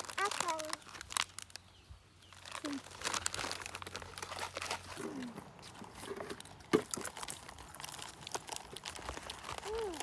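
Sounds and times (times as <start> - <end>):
crinkling handling noise: 0.0 - 10.0.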